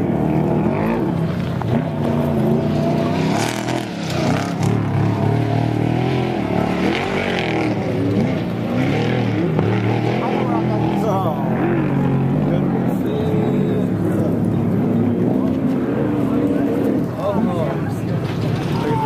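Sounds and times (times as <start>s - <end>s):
off-road engines revving: 0.0s - 19.0s.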